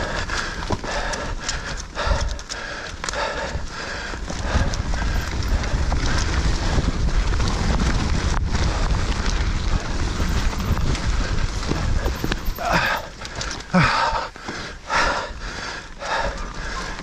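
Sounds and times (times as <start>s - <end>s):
wind buffeting microphone: 0.0s - 14.3s
tyres rumbling on dirt: 0.0s - 15.0s
bike rattling and clattering: 0.0s - 17.0s.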